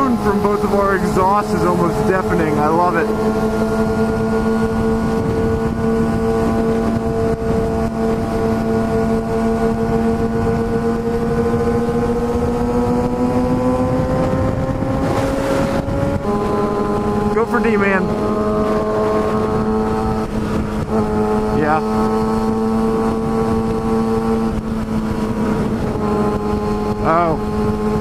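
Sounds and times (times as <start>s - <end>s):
motorcycle exhaust droning: 0.0s - 28.0s
wind rushing over microphone: 0.0s - 28.0s.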